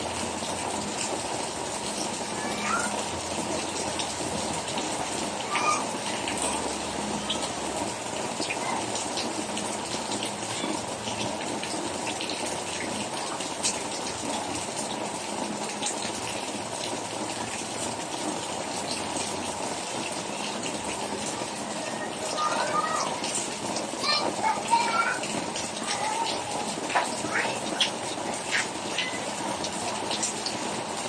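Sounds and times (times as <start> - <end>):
drops splashing and ticking: 0.0 - 31.0
heavy rain pouring: 0.0 - 31.0
water gushing: 0.0 - 31.0.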